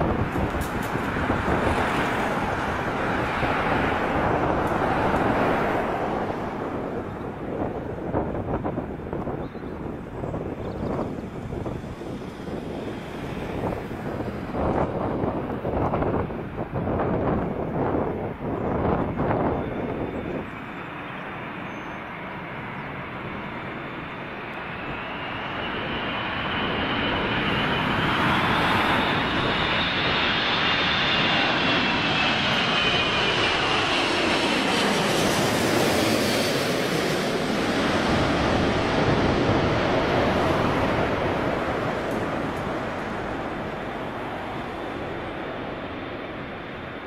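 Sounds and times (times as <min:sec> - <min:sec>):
jet airliner passing overhead: 0:00.0 - 0:47.0.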